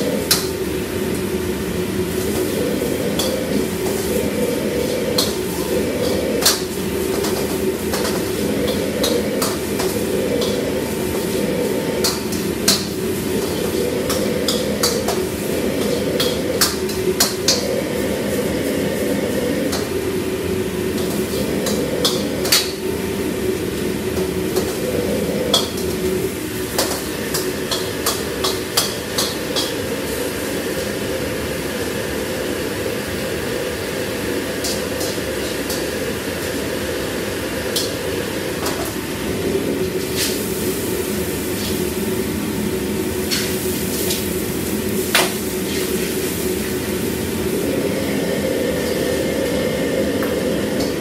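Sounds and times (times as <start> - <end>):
gas burner rushing: 0.0 - 51.0.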